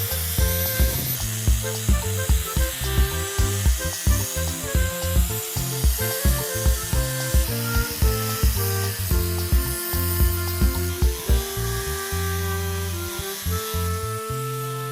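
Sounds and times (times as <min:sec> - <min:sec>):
music with steady beat: 0:00.0 - 0:13.8.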